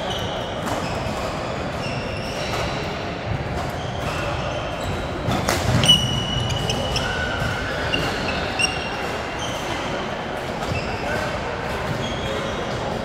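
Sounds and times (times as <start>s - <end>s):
sneakers squeaking on court floor: 0.0s - 13.0s.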